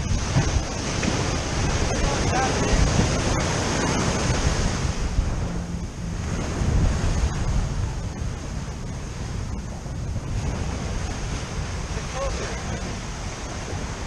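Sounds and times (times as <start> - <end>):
ocean surf washing onto shore: 0.0 - 14.0
wind rumbling on microphone: 0.0 - 14.0.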